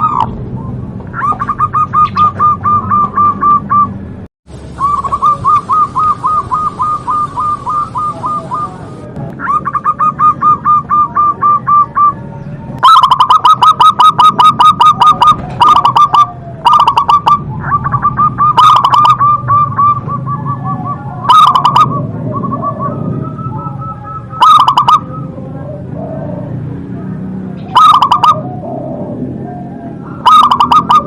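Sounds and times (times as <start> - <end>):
dove cooing: 0.0 - 4.0, 4.8 - 31.0.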